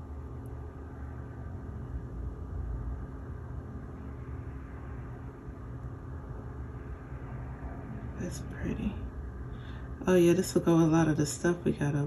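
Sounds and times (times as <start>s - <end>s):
low background rumble with hum: 0.0s - 12.0s.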